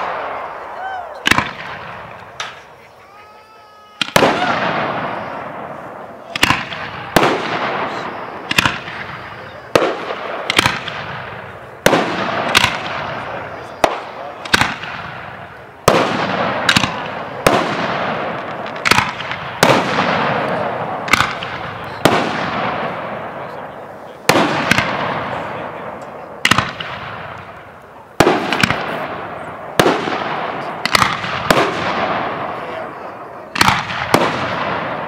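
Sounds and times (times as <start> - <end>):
fireworks banging: 0.0 - 35.0
fireworks rumble and crackle: 0.0 - 35.0.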